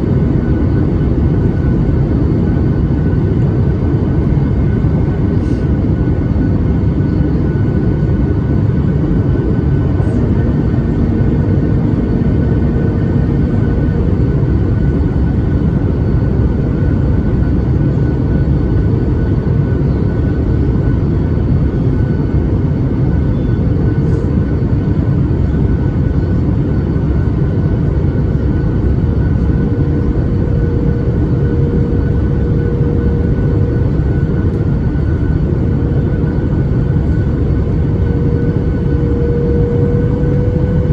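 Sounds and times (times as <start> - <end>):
airliner cabin roar: 0.0 - 40.9.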